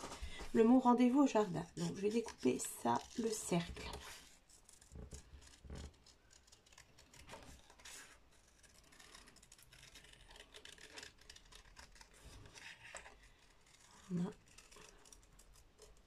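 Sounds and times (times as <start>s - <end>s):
scissors snipping paper card: 0.0s - 16.0s.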